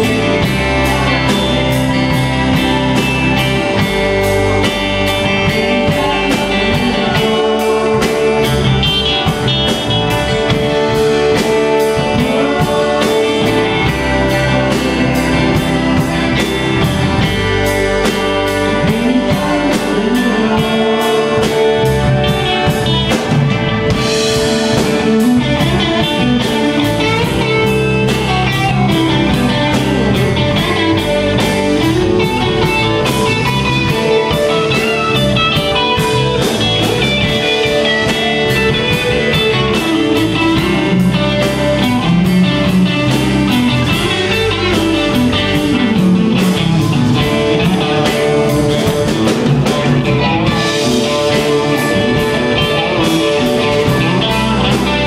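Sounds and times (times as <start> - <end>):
bass guitar: 0.0 - 55.0
electric guitar: 0.0 - 55.0
steady drum beat: 0.0 - 55.0.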